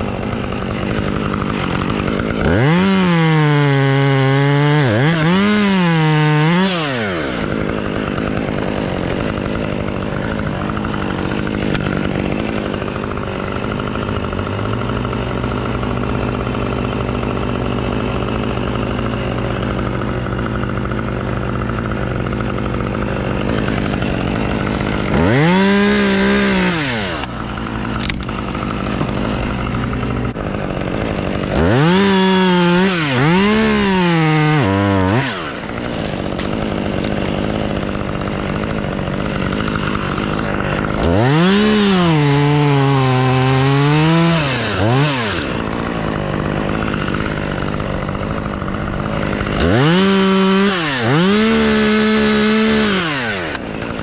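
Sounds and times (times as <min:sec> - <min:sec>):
chainsaw cutting wood: 0:00.0 - 0:54.0
chainsaw idling and revving: 0:00.0 - 0:54.0.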